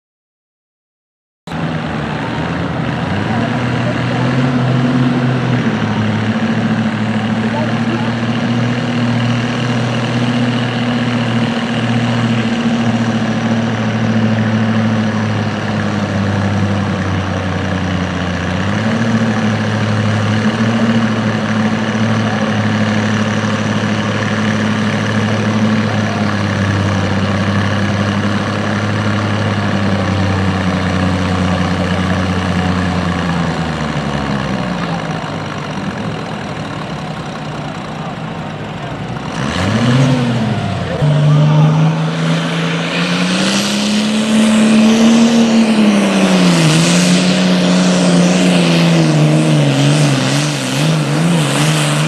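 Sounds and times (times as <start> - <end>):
tractor engine labouring: 1.5 - 52.0.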